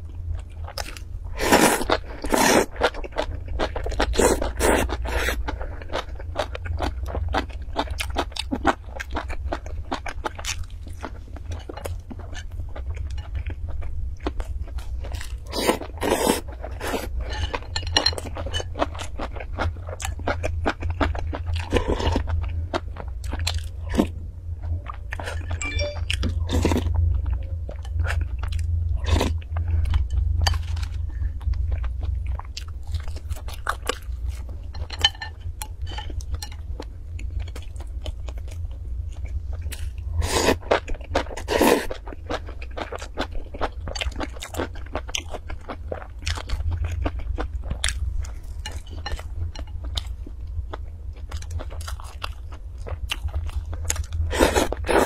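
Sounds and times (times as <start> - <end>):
chewing and crunching food: 0.0 - 55.0
steady low hum: 0.0 - 55.0.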